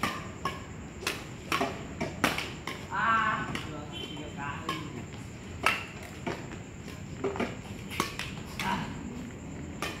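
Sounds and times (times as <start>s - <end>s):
rackets striking shuttlecock: 0.0s - 3.9s, 4.5s - 6.6s, 7.2s - 9.0s, 9.7s - 10.0s.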